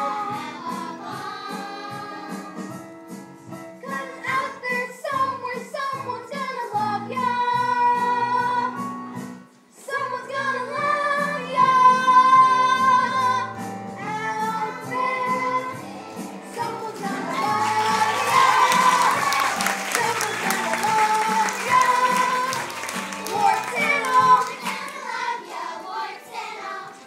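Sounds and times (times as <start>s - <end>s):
musical accompaniment: 0.0s - 27.0s.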